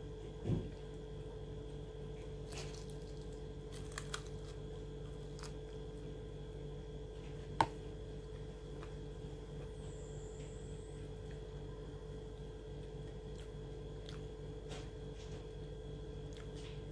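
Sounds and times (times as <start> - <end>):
steady electrical hum: 0.0 - 16.9.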